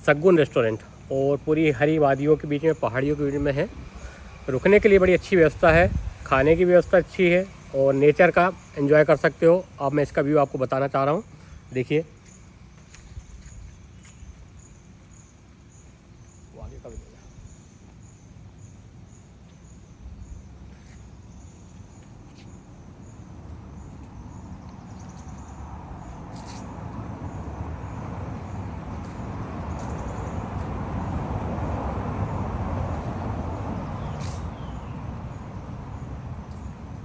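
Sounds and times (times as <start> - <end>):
insects chirping: 0.0 - 37.0
vehicle passing rumble: 0.0 - 37.0.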